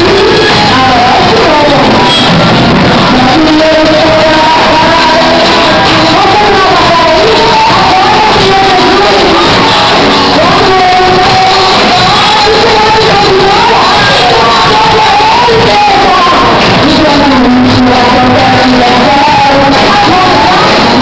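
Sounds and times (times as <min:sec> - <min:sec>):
gospel singing voices: 0:03.0 - 0:21.0.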